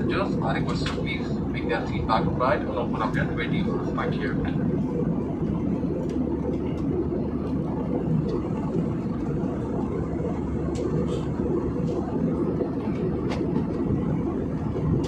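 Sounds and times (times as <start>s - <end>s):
jet cabin engine roar: 0.0s - 15.0s.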